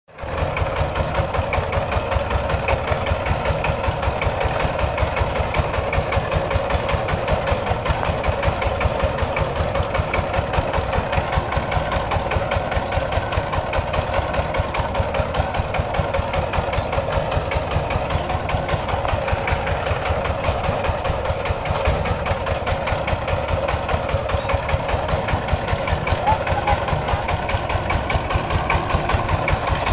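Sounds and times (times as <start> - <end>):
power tiller engine running: 0.1 - 29.9.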